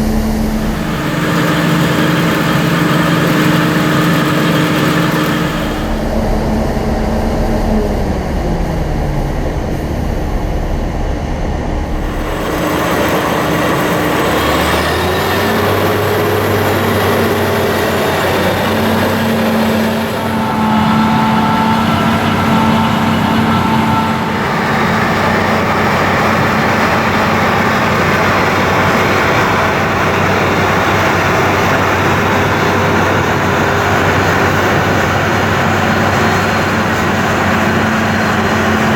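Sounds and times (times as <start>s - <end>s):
combine harvester running: 0.0s - 10.0s, 11.6s - 38.9s.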